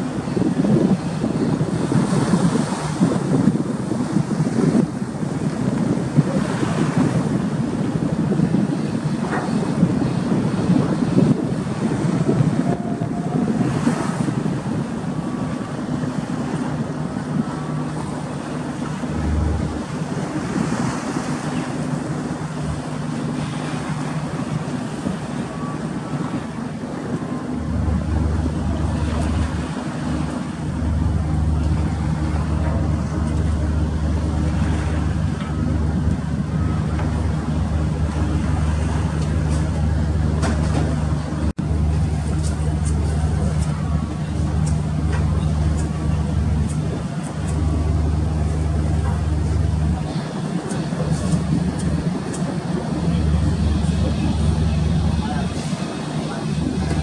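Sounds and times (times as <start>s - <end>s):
rough sea: 0.0s - 57.0s
ship engines humming: 0.0s - 57.0s
wind buffeting microphone: 0.0s - 57.0s.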